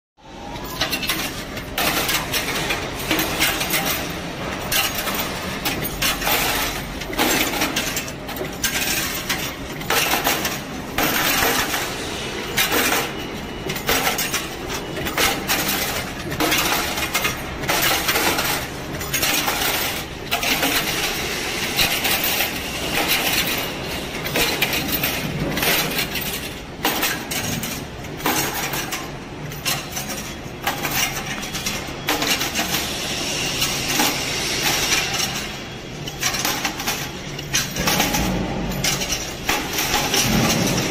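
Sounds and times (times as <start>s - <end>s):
thread rolling machine running: 0.2s - 40.9s.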